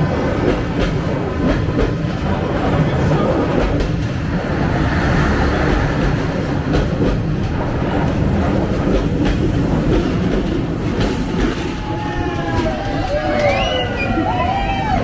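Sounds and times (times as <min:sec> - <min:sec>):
train wheels rumbling on rails: 0:00.0 - 0:15.0
wheels clacking over rail joints: 0:00.0 - 0:15.0.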